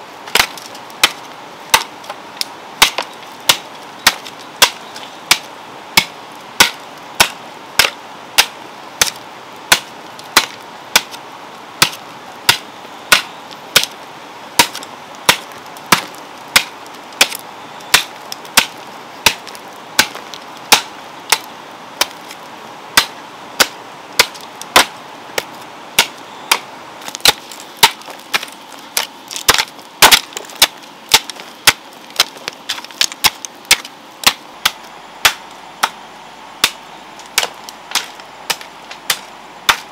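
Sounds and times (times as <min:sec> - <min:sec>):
metal hoe chopping soil: 0:00.3 - 0:11.2, 0:11.8 - 0:14.0, 0:14.6 - 0:22.4, 0:23.0 - 0:36.0, 0:36.6 - 0:39.9.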